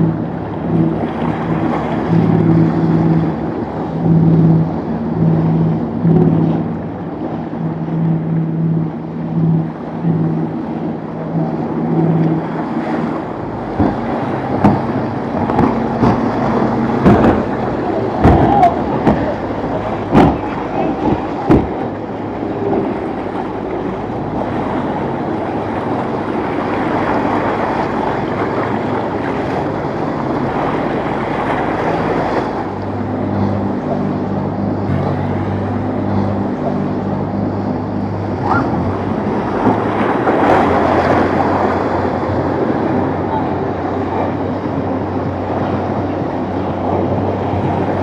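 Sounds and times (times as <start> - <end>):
boat engine droning: 0.0 - 48.0
surf and waves: 0.0 - 48.0
wind buffeting microphone: 0.0 - 48.0.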